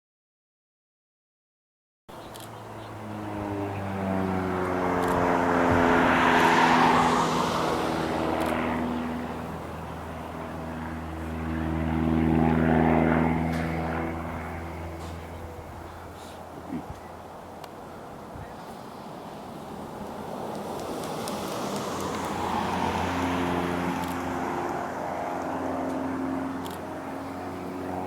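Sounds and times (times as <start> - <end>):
aircraft engine passing overhead: 2.1 - 28.0.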